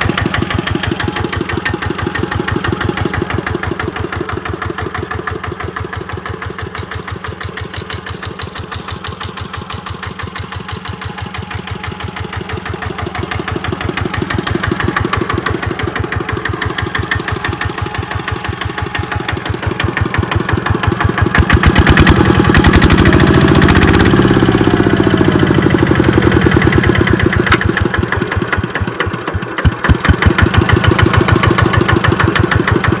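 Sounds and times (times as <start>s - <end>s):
single-cylinder diesel engine running: 0.0s - 33.0s.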